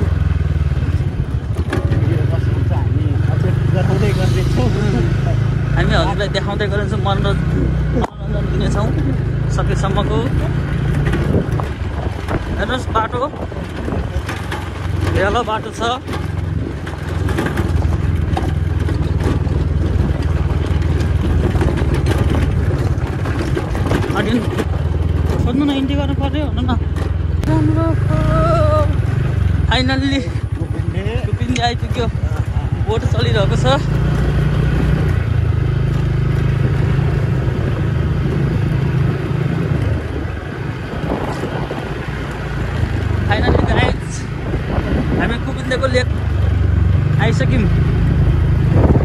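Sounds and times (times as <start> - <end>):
rattling and knocking from bumps: 0.0 - 49.0
scooter engine droning: 0.0 - 49.0.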